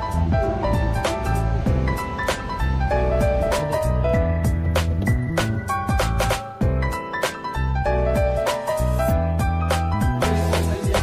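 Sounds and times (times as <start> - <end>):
music with deep bass beat: 0.0 - 11.0.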